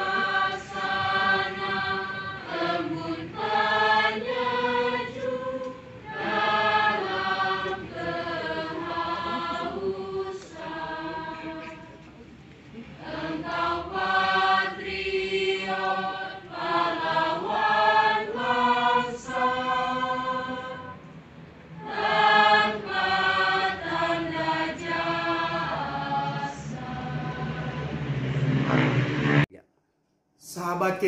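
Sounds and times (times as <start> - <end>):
choir singing: 0.0 - 12.0, 13.0 - 21.1, 21.7 - 29.5.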